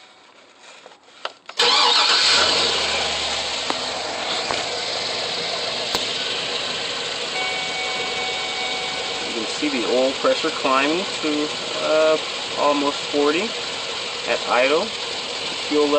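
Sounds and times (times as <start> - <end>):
engine starting and idling: 1.5 - 15.9.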